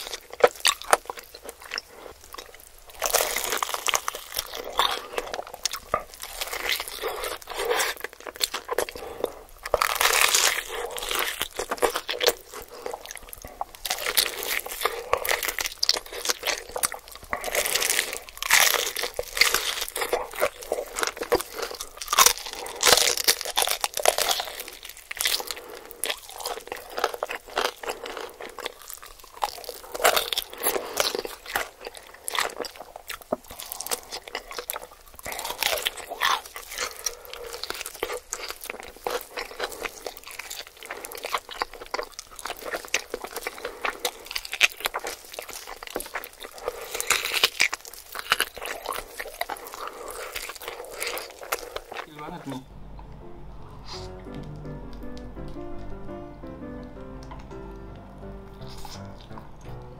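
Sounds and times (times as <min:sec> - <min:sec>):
crunching bites into fried chicken: 0:00.0 - 0:52.6
wet chewing: 0:00.0 - 0:52.6, 0:58.3 - 0:59.8.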